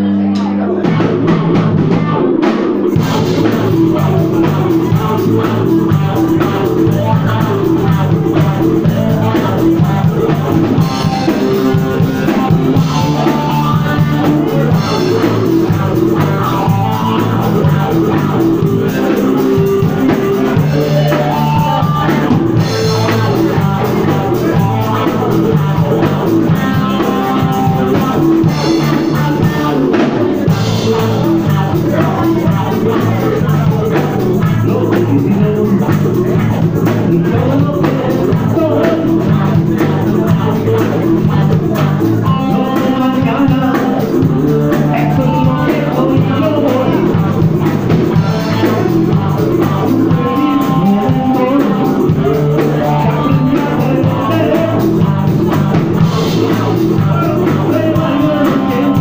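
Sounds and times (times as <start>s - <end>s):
electric guitar: 0.0s - 59.0s
drum kit: 0.3s - 59.0s.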